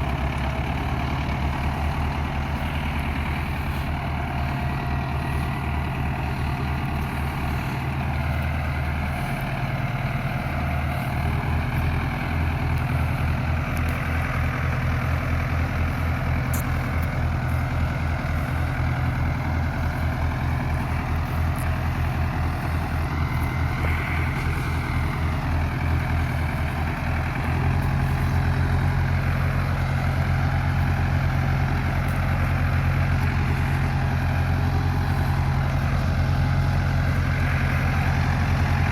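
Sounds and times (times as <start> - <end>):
tractor diesel engine throbbing: 0.0 - 38.9.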